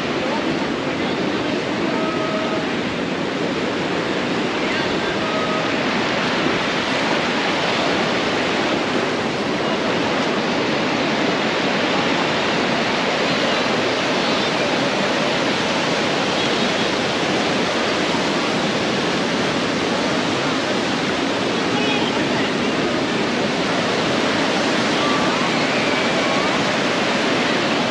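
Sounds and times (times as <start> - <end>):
ocean surf breaking on beach: 0.0 - 27.9.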